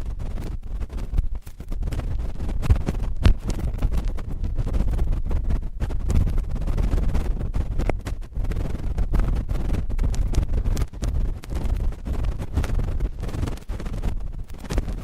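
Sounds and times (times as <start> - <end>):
cotton swab scraping microphone: 0.0 - 15.0
small clicks and crackles: 0.0 - 15.0.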